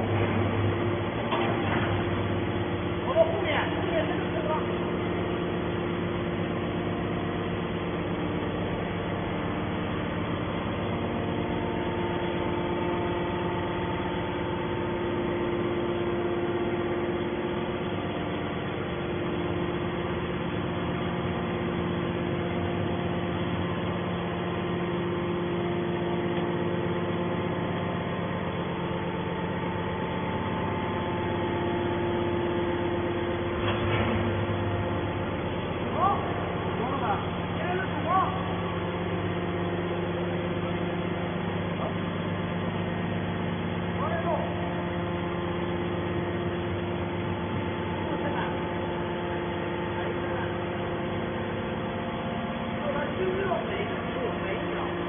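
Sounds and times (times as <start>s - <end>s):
hydraulic pump humming: 0.0s - 55.0s.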